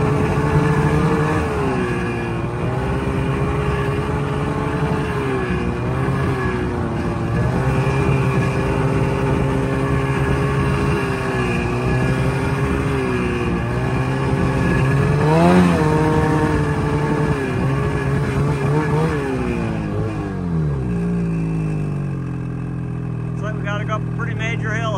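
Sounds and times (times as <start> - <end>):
snowmobile engine running: 0.0 - 24.9.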